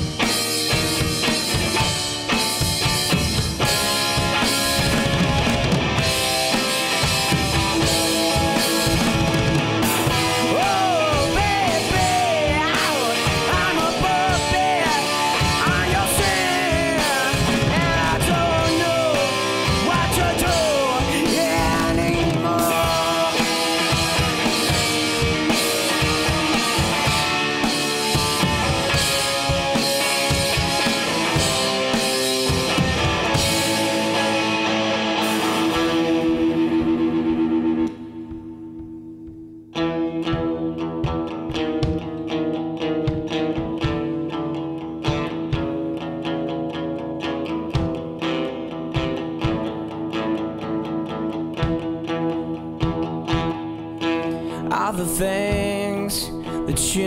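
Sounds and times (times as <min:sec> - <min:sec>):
distorted electric guitar: 0:00.0 - 0:57.0
drum kit: 0:00.0 - 0:57.0.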